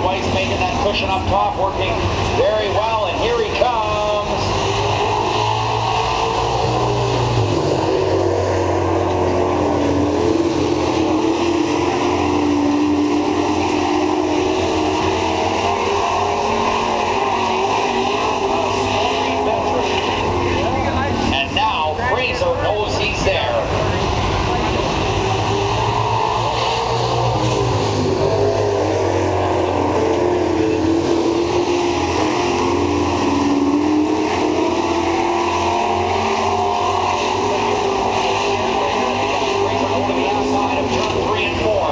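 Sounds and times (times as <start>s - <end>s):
race truck engines running hard: 0.0s - 41.9s.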